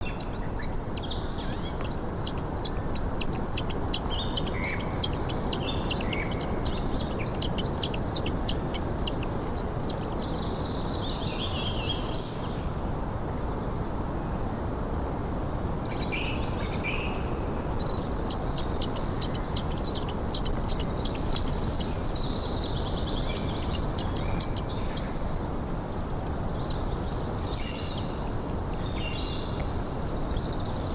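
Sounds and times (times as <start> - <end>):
small birds chirping: 0.1 - 13.0, 17.7 - 30.9.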